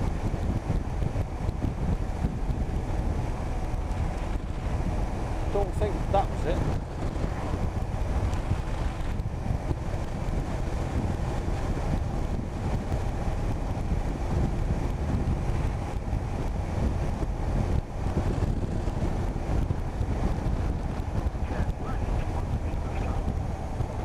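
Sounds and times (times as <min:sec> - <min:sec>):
motorcycle engine and road rumble: 0:00.0 - 0:24.0
wind rushing over microphone: 0:00.0 - 0:24.0.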